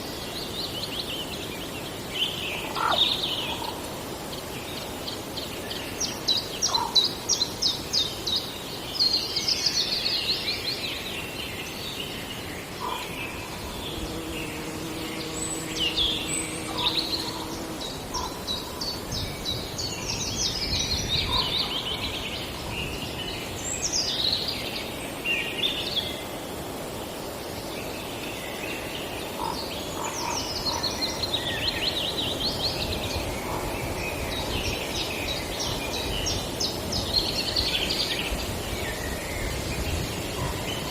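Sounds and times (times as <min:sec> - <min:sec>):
songbirds trilling and chirping: 0:00.0 - 0:40.9
woodland background hiss: 0:00.0 - 0:40.9.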